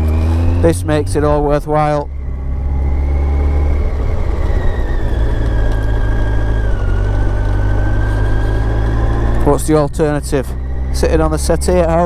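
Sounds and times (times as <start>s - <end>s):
low rumble: 0.0s - 12.0s
motorcycle engine whine: 0.0s - 12.0s.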